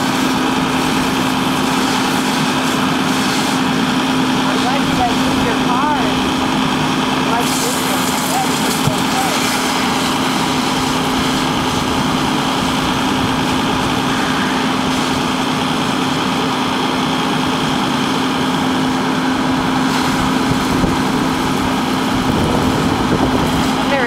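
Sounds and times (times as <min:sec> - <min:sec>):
fire engine running: 0:00.0 - 0:24.0.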